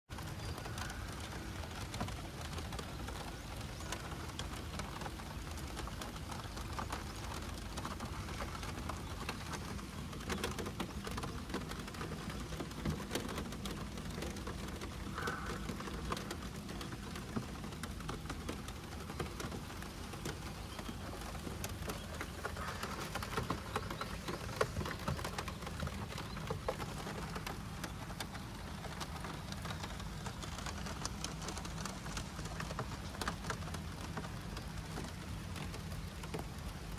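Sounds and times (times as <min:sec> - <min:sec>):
rain falling: 0:00.1 - 0:36.9.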